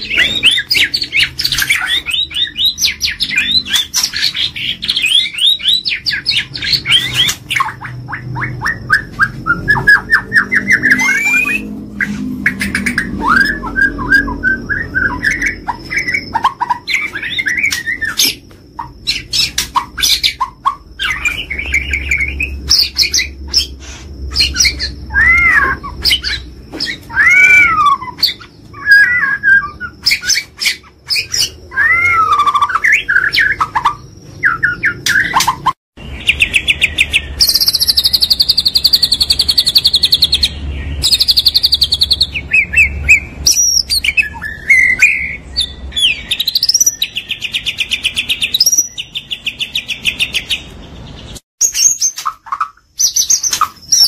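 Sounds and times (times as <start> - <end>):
songbird whistling and clicking: 0.4 - 11.7, 12.5 - 23.7, 24.4 - 35.8, 36.4 - 45.4, 46.0 - 50.8, 51.6 - 54.0.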